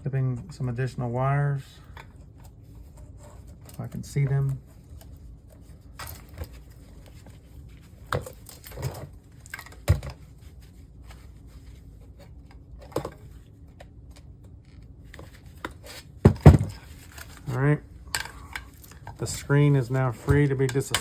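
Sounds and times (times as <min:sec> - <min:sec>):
plastic and metal parts handled: 0:01.9 - 0:21.0.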